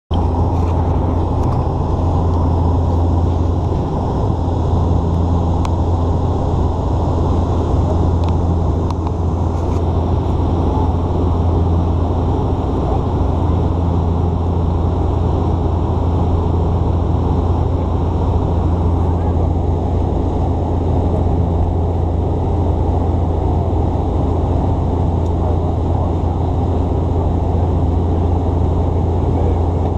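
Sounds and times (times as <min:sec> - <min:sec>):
low propeller hum: 0:00.1 - 0:29.9.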